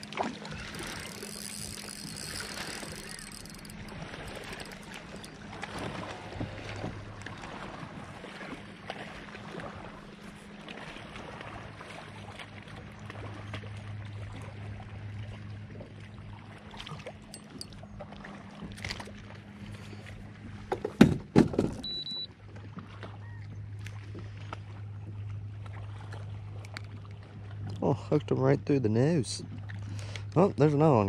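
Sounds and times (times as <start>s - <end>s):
low hum: 0.0s - 20.9s, 21.8s - 31.0s
water and wind noise: 0.0s - 31.0s.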